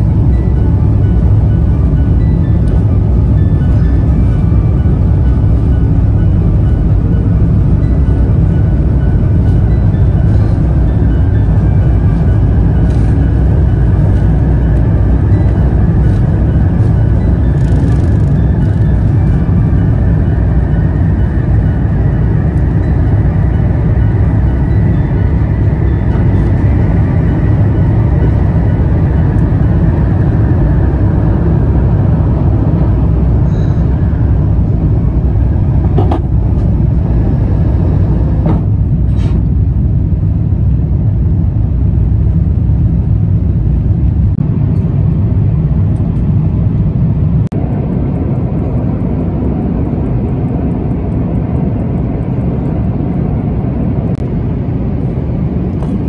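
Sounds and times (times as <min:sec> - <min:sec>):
jet engine roar in cabin: 0:00.0 - 0:56.0.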